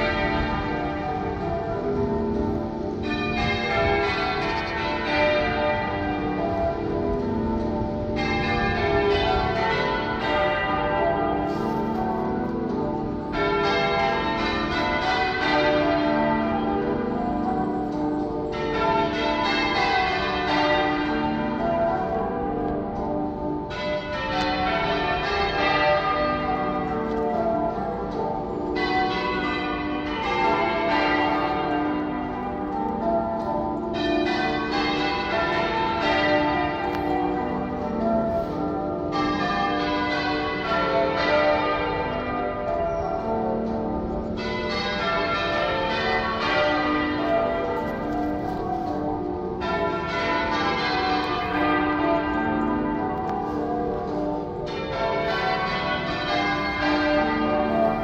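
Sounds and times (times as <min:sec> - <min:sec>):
half-muffled church bells ringing: 0:00.0 - 0:58.0.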